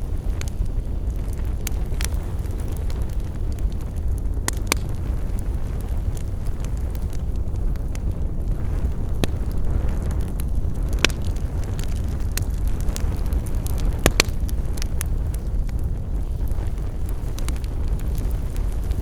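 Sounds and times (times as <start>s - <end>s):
campfire crackling: 0.0s - 19.0s
low rumble: 0.0s - 19.0s.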